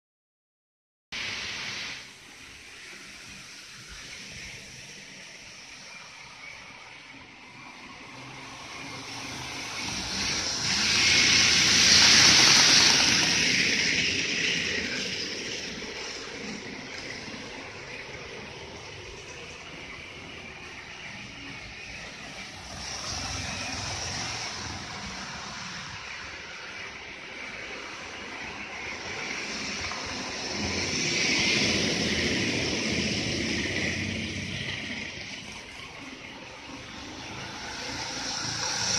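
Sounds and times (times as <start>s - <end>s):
model train running past: 1.2s - 38.9s.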